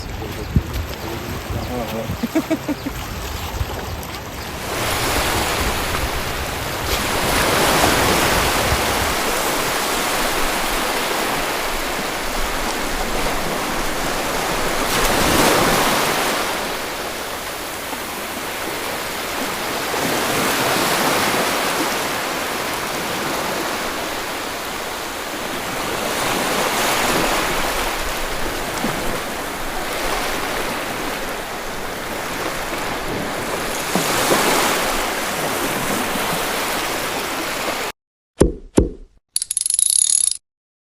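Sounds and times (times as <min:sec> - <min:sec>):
sea waves washing onto shore: 0:00.0 - 0:37.9.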